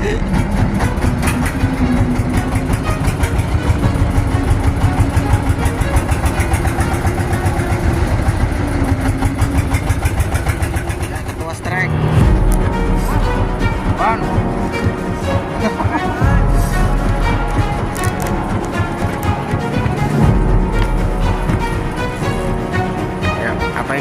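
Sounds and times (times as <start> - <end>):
engine running with even pulsing: 0.0 - 24.0.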